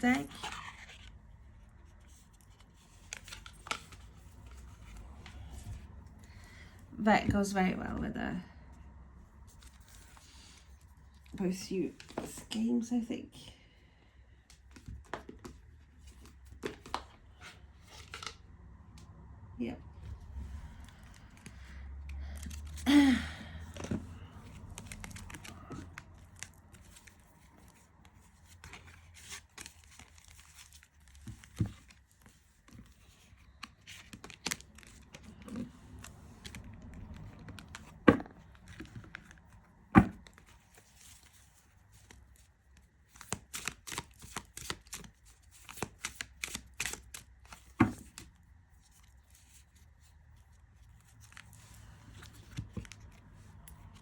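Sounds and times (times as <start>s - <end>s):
cards and cardboard rustling: 0.0s - 7.9s, 9.4s - 12.7s, 14.2s - 18.5s, 20.0s - 54.0s.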